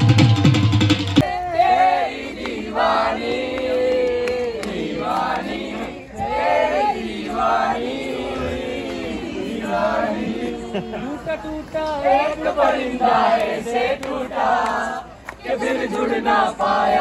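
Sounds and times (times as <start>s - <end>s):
group singing unaccompanied: 1.1s - 17.0s.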